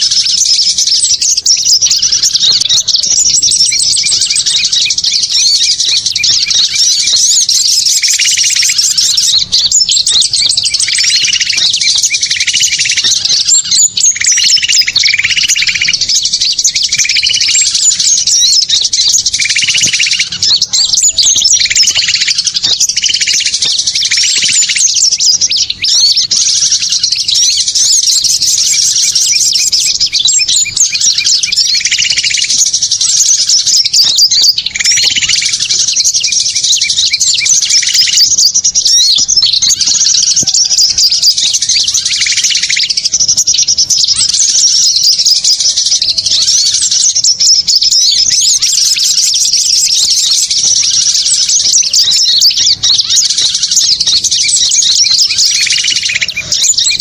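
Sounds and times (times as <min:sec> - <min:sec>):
lower bird call: 0:00.0 - 0:57.0
small songbirds chirping: 0:00.0 - 0:57.0.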